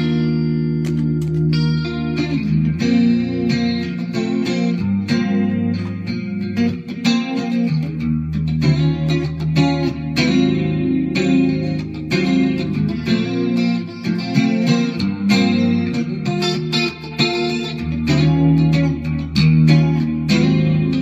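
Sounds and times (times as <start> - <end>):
clean electric guitar chords: 0.0 - 21.0.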